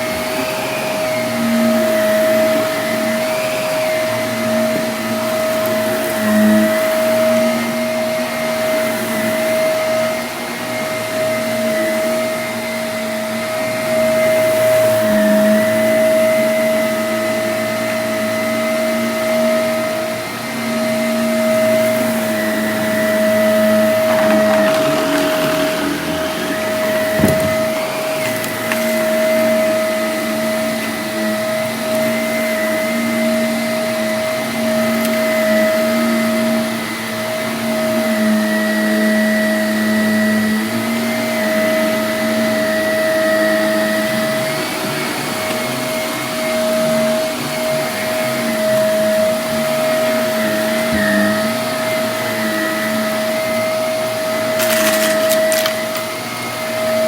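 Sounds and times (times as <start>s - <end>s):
vacuum cleaner whine: 0.0s - 57.0s.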